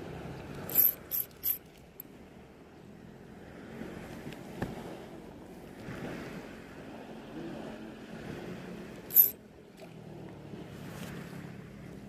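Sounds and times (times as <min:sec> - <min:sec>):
water noise at sea: 0:00.0 - 0:12.0
wind: 0:00.0 - 0:12.0.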